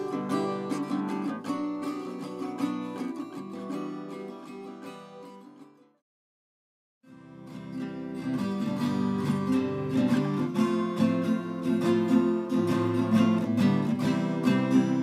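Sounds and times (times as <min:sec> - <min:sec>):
acoustic guitar music: 0:00.0 - 0:06.0, 0:07.0 - 0:15.0.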